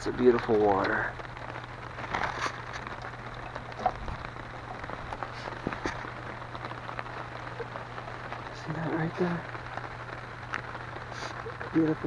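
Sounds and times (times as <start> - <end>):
rain falling on a tarp: 0.0 - 12.0.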